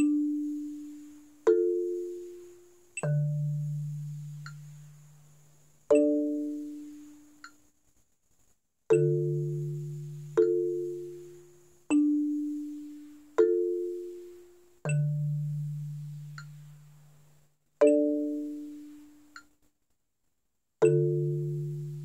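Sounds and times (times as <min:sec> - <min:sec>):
marimba chords: 0:00.0 - 0:07.4, 0:08.9 - 0:19.1, 0:20.8 - 0:22.0.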